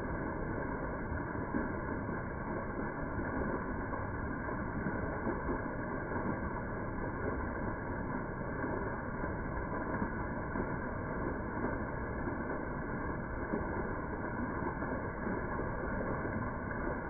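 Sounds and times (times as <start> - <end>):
waterfall splashing over rocks: 0.1 - 17.0.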